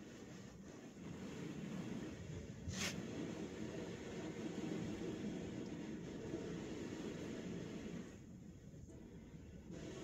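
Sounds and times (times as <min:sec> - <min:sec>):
muffled hose spray on windshield: 0:00.0 - 0:10.0.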